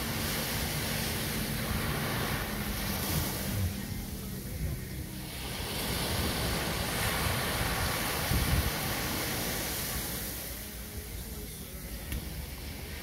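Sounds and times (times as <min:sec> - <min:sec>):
waves breaking on sand: 0:00.0 - 0:11.2.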